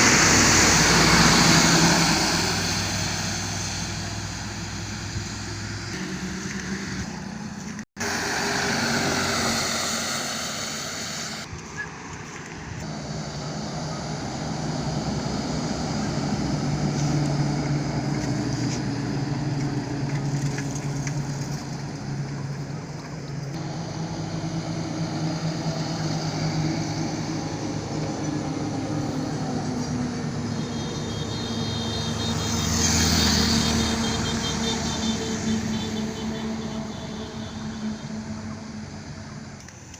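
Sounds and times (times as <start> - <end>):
vehicle passing close: 0.0 - 11.5, 12.7 - 39.3
highway traffic passing: 0.0 - 39.9.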